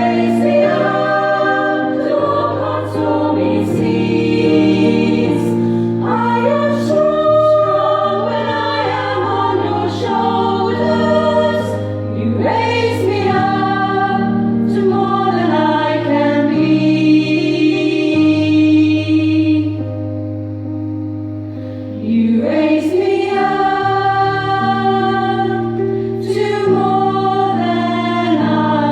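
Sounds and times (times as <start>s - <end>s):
women's choir singing: 0.0s - 19.9s, 22.0s - 28.9s.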